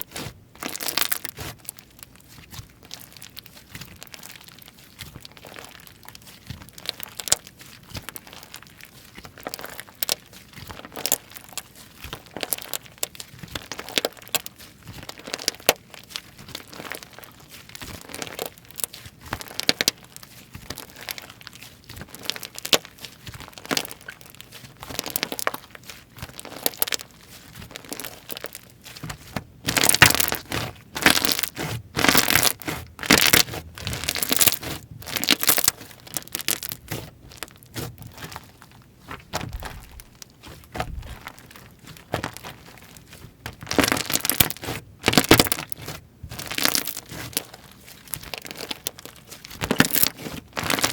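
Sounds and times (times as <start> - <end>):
slime squished by hand: 0.0 - 50.9.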